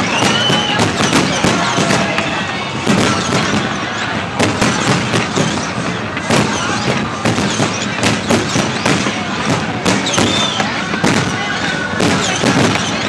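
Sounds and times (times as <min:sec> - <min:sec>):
fireworks bursting with bangs: 0:00.0 - 0:13.0
fireworks crackling: 0:00.0 - 0:13.0.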